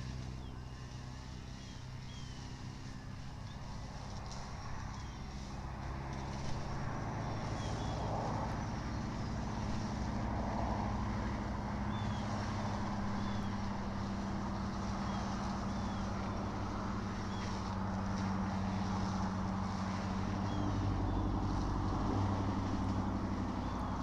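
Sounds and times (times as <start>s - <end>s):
low microphone rumble and hum: 0.0s - 24.0s.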